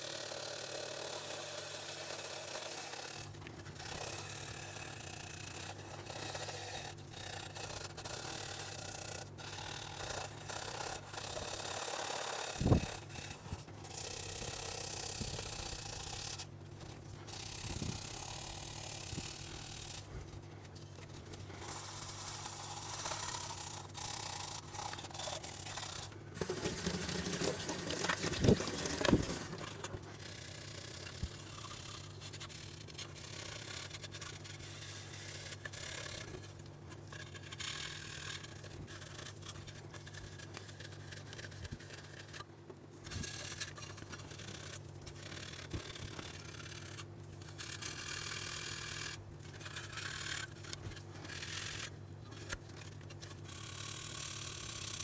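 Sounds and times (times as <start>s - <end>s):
rubbing and scraping on metal: 1.8s - 55.0s.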